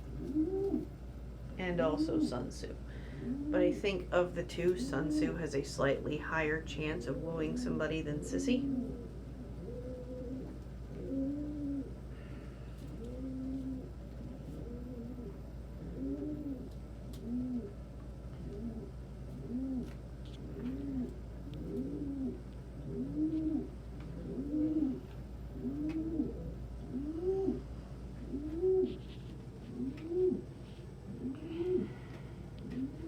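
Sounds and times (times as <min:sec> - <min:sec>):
pigeons cooing: 0:00.0 - 0:33.0.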